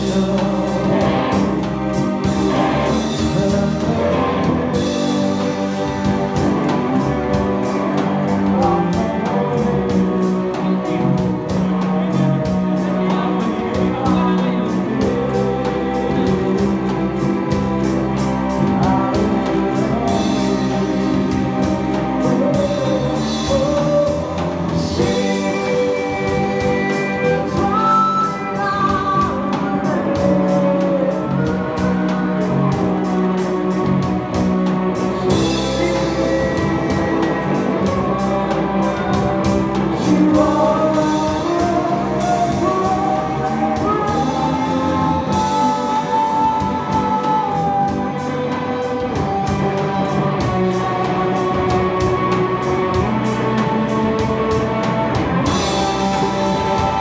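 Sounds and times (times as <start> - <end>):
drum kit cymbal beat: 0.0 - 57.0
live band playing: 0.0 - 57.0
person singing: 0.0 - 57.0.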